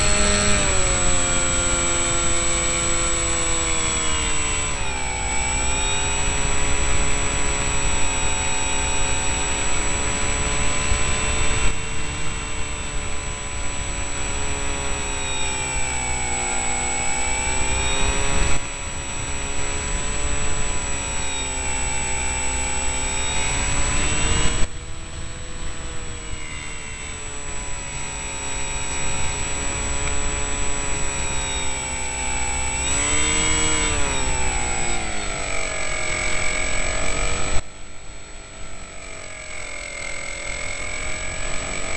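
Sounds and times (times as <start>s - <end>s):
electric motor and propeller whine: 0.0s - 41.9s.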